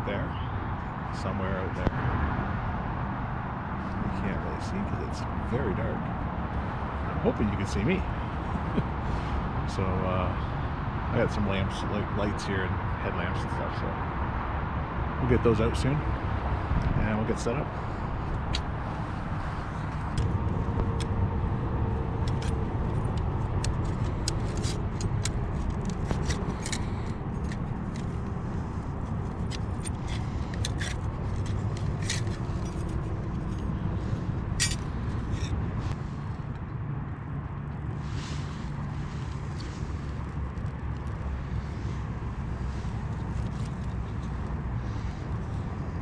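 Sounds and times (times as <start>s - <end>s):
highway traffic drone: 0.0s - 46.0s.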